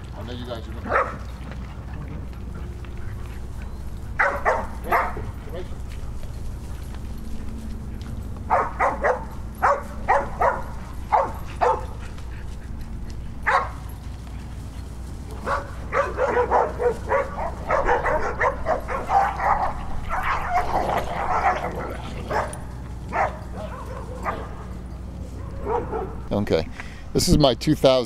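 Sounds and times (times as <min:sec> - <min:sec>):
dogs barking and yipping: 0:00.7 - 0:26.5.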